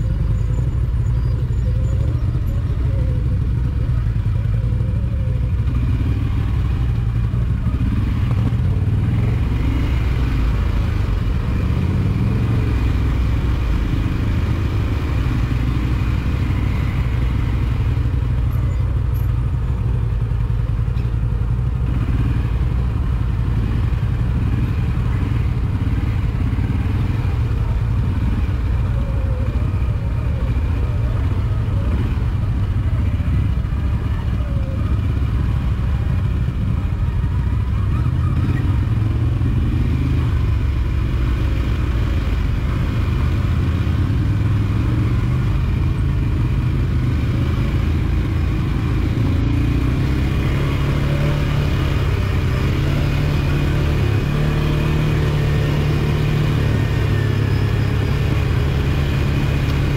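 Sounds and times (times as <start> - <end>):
engine droning: 0.0 - 59.9.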